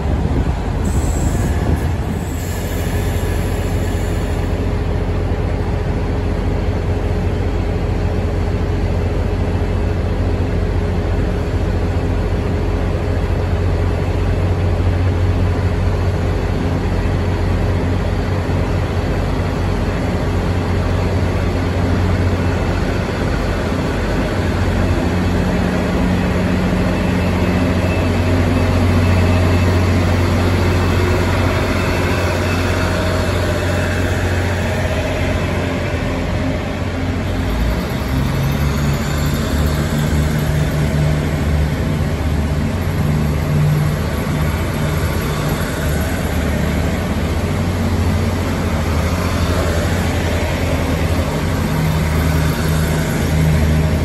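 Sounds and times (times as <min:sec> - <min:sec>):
diesel train engines humming: 0:00.0 - 0:54.0.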